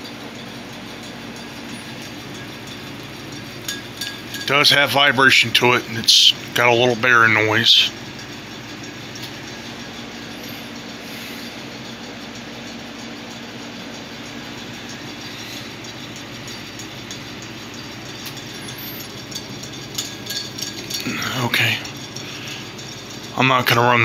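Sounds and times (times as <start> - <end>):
ceiling fan running: 0.0 - 24.0.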